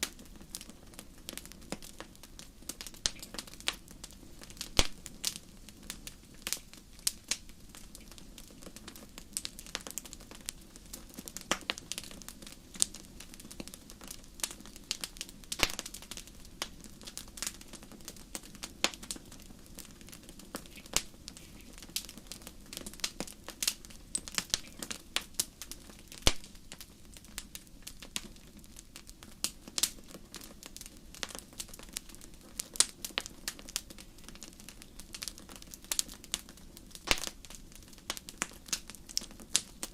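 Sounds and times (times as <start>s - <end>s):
sharp pops and snaps: 0.0s - 30.6s, 31.2s - 39.9s
fireplace fire crackling: 0.0s - 39.9s.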